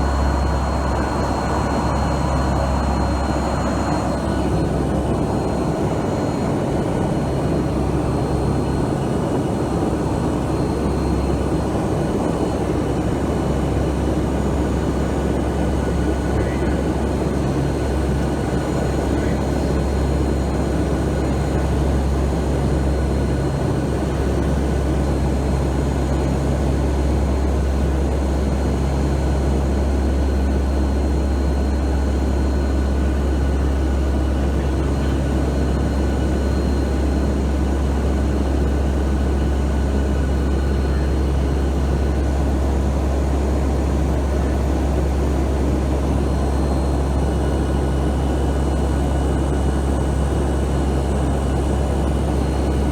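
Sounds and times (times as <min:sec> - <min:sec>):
turboprop engines droning in cabin: 0:00.0 - 0:52.9.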